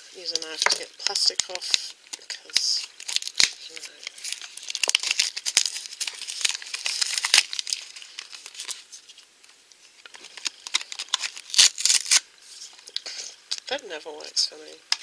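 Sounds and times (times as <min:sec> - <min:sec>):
plastic wrap crinkling: 0:00.0 - 0:13.8.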